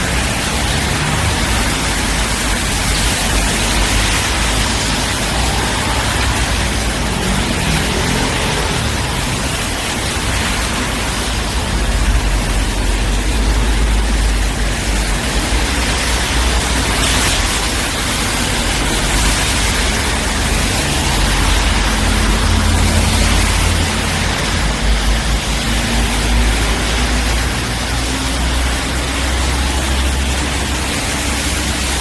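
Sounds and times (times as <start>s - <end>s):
tyres hissing on wet road: 0.0s - 32.0s.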